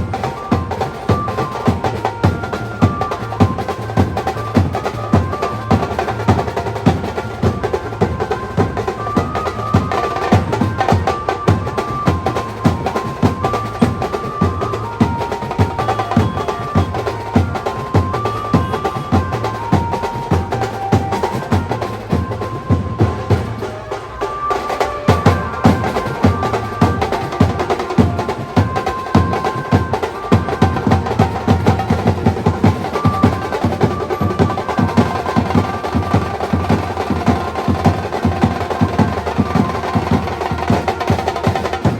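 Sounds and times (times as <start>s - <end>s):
fast busy drumming: 0.0s - 41.9s.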